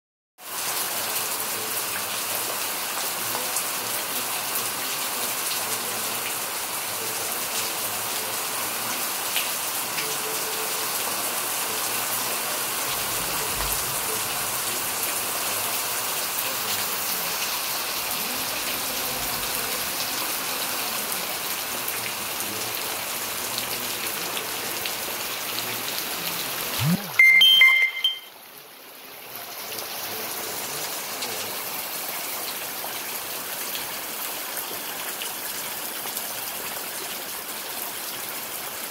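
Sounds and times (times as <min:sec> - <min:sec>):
heavy rain on paved ground: 0:00.4 - 0:38.9.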